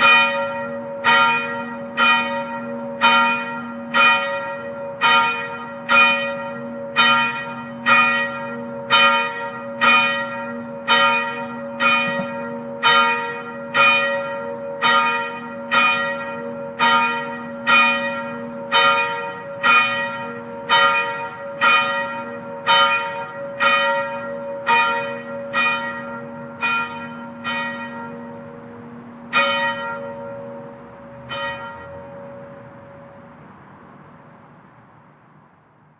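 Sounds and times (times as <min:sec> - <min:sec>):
church bell tolling: 0:00.0 - 0:33.7.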